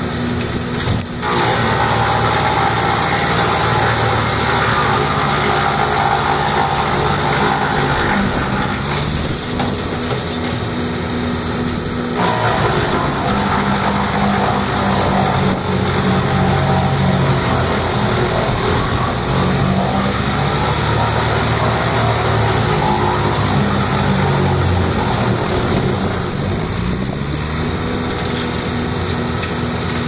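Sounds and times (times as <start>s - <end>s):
wood chipper engine running: 0.0s - 30.0s.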